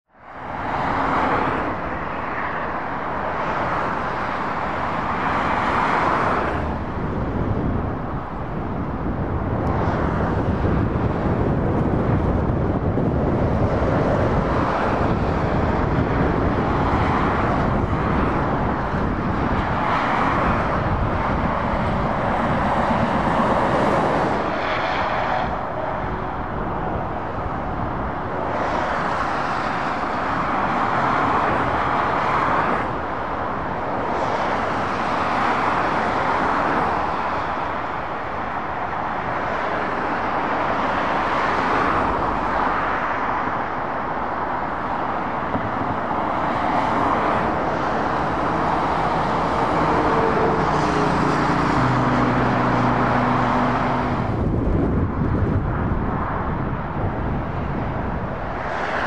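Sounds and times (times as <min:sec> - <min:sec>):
car and lorry engines: 0:00.1 - 0:59.0
tyres rushing on tarmac: 0:00.2 - 0:59.0.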